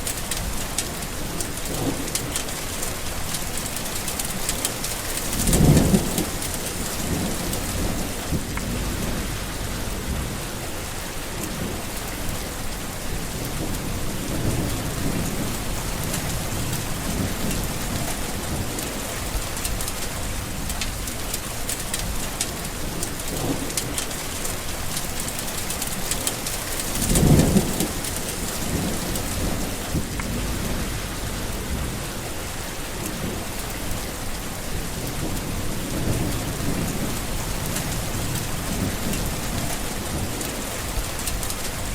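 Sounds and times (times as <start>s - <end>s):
rain falling: 0.0s - 41.9s
thunder rumbling: 0.0s - 41.9s.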